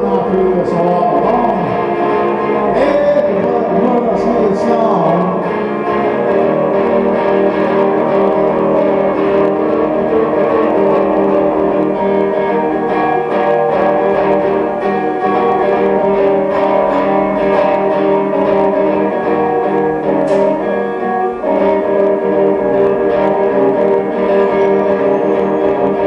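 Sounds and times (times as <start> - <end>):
solo guitar playing: 0.0 - 26.0.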